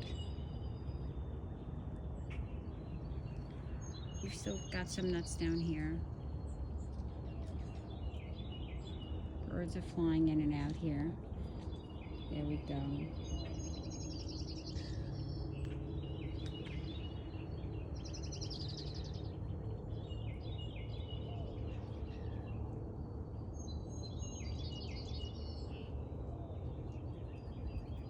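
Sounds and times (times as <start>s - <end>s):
low background rumble: 0.0s - 28.0s
songbirds chirping and singing: 1.7s - 28.0s.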